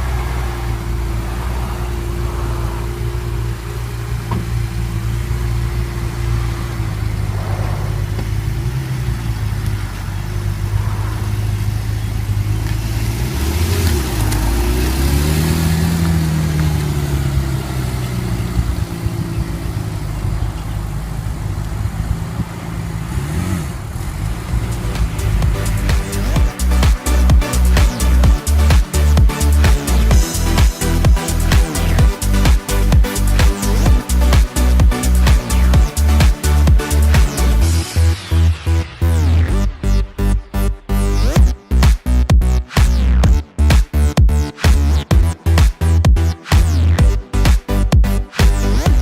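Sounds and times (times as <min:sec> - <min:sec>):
sports car engine revving: 0:00.0 - 0:49.0.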